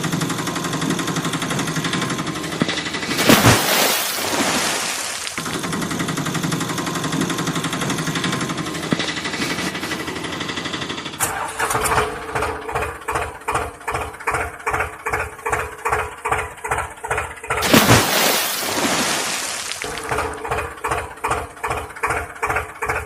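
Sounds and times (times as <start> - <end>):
mechanical engine-like buzz: 0.0 - 3.4, 5.4 - 17.7, 19.8 - 23.0.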